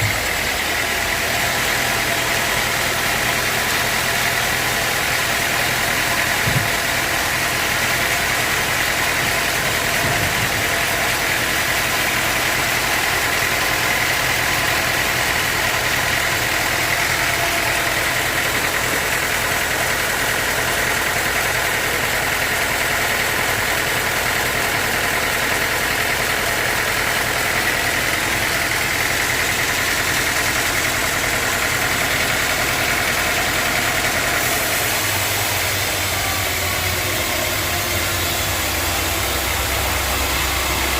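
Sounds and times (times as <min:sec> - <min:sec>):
sawmill drone with high whine: 0:00.0 - 0:40.9.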